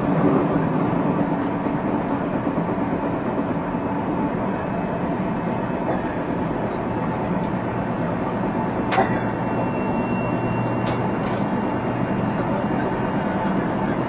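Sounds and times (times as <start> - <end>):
thin steady whine: 0.0 - 14.0
train rumble with low hum: 0.0 - 14.0.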